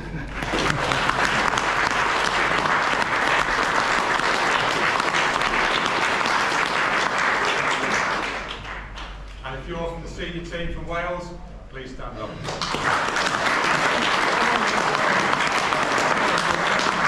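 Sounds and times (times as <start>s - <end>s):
audience applauding: 0.0s - 9.4s, 12.4s - 17.0s.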